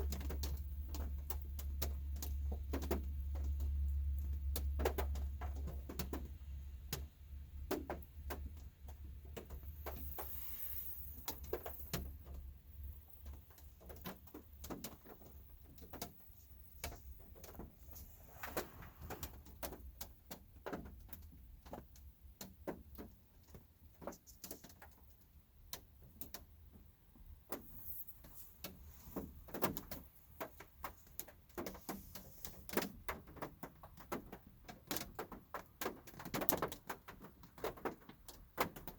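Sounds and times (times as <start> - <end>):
raindrops tapping on car roof: 0.0 - 38.9.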